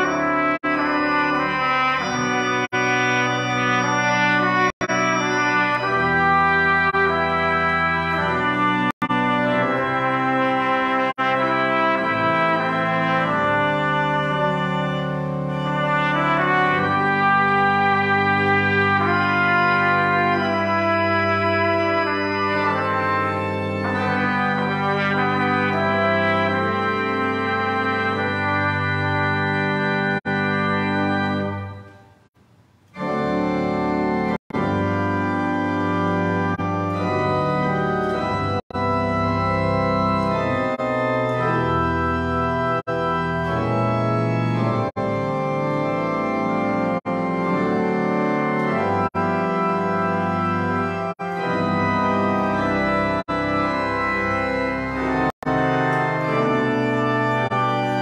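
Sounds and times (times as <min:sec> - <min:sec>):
church organ chords: 0:00.0 - 0:32.3, 0:32.9 - 0:58.0.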